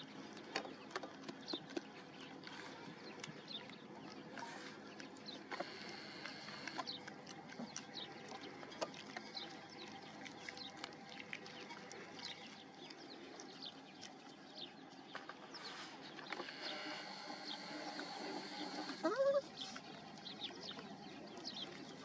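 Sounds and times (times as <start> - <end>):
puppies lapping water: 0.0 - 22.0.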